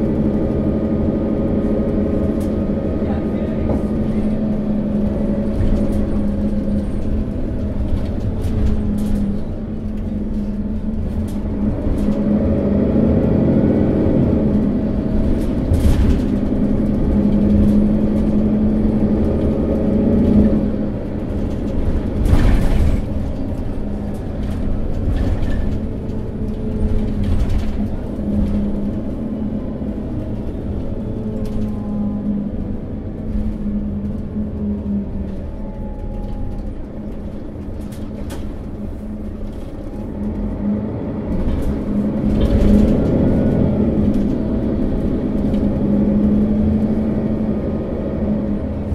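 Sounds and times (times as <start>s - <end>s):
bus diesel engine droning: 0.0s - 48.9s.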